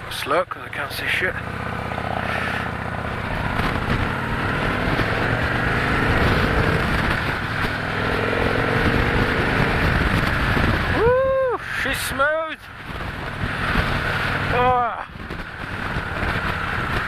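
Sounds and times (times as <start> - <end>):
motorcycle engine running: 0.0 - 11.8, 12.6 - 17.0
wind noise on microphone: 1.7 - 12.0, 12.7 - 17.0.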